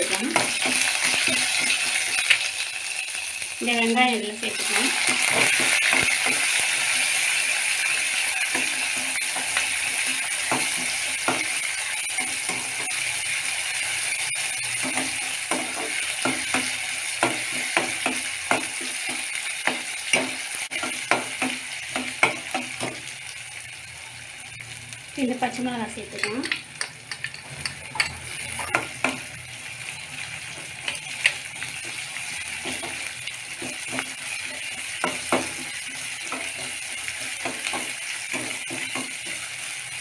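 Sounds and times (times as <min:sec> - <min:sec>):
onions sizzling in hot oil: 0:00.0 - 0:40.0.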